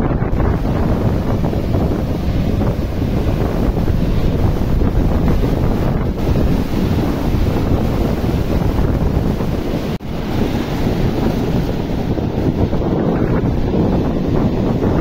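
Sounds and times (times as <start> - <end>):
sea surf washing ashore: 0.0 - 15.0
wind buffeting microphone: 0.0 - 15.0.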